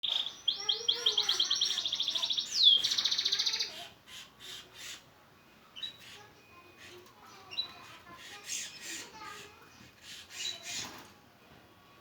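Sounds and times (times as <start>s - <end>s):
canary singing trills: 0.0s - 5.1s, 5.7s - 10.9s.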